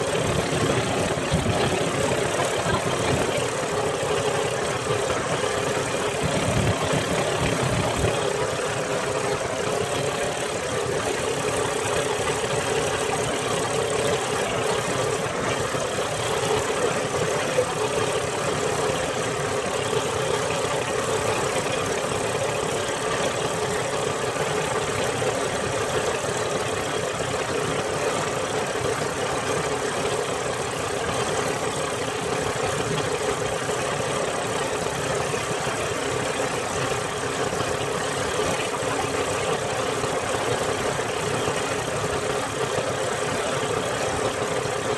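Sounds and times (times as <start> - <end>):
boat engine droning: 0.0 - 44.9
water noise: 0.0 - 44.9.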